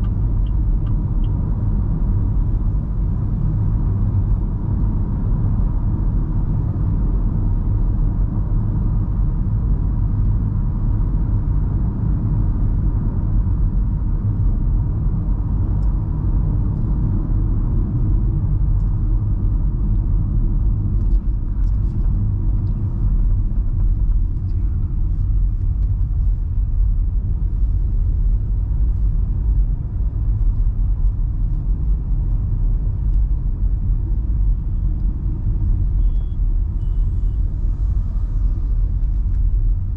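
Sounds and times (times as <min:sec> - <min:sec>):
car road and drivetrain rumble: 0:00.0 - 0:39.9.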